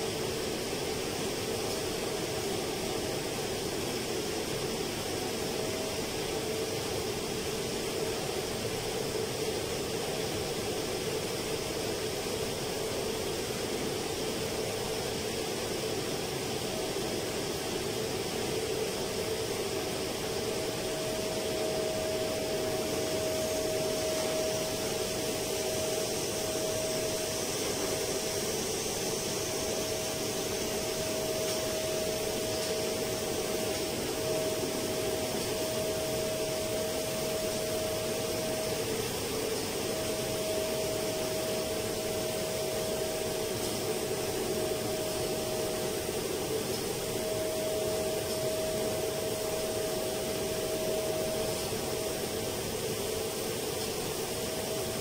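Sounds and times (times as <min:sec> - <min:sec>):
machinery and fans rushing: 0:00.0 - 0:55.0
mid-pitched hum: 0:00.0 - 0:55.0.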